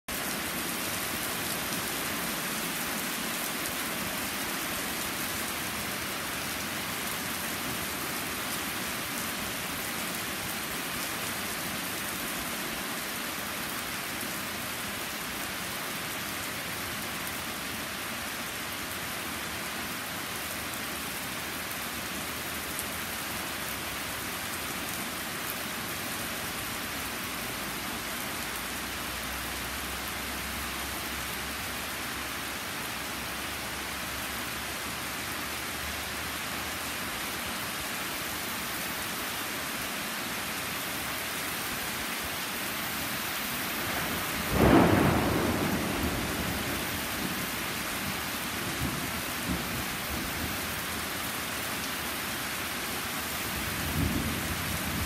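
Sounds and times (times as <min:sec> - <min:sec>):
heavy rain pouring: 0:00.1 - 0:55.0.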